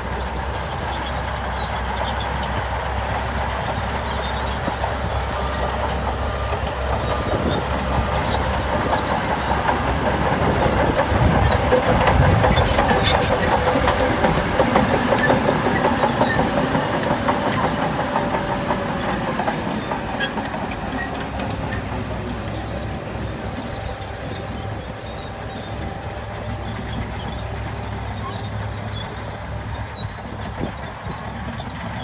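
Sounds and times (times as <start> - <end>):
heavy machinery engine rumble: 0.0 - 32.0.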